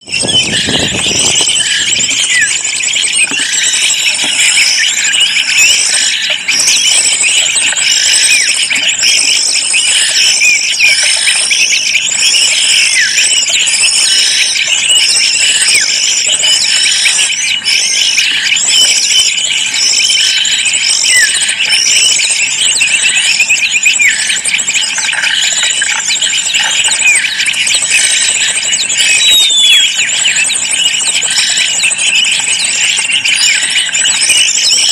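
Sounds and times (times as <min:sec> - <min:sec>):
repeating bird call: 0:00.0 - 0:34.9
small birds chirping: 0:00.0 - 0:34.9.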